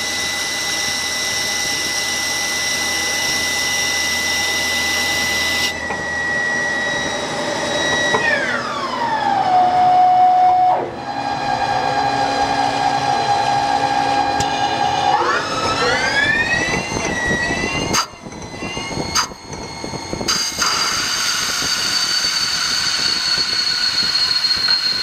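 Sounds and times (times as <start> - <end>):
lathe spindle whining: 0.0 - 25.0
low machine hum: 0.0 - 25.0.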